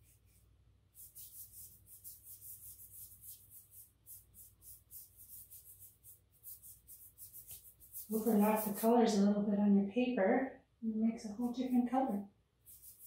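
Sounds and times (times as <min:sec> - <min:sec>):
paintbrush swishing on paper: 0:00.0 - 0:09.2, 0:11.4 - 0:13.0.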